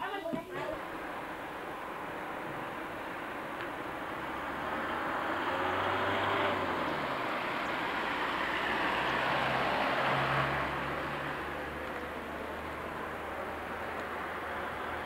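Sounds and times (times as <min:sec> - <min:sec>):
cars driving past: 0:00.5 - 0:15.0.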